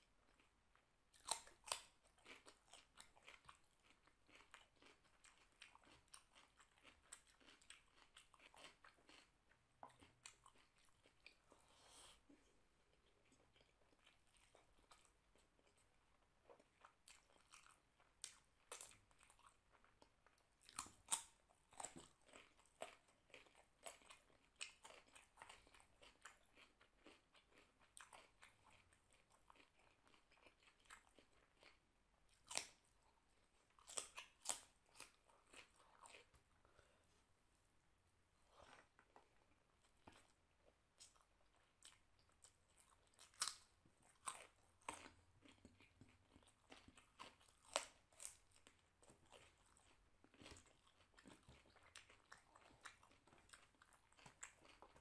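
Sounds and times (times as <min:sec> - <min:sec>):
close chewing: 0:01.1 - 0:37.2, 0:38.4 - 0:55.0.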